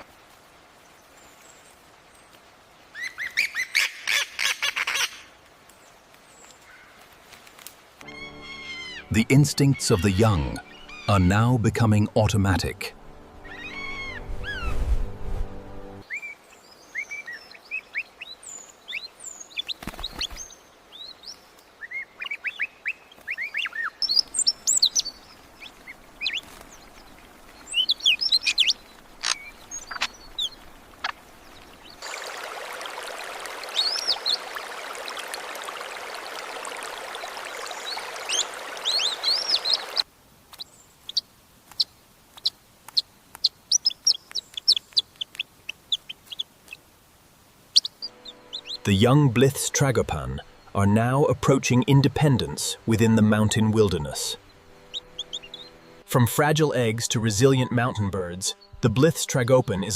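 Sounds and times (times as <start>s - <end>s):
birds chirping: 8.0s - 59.9s.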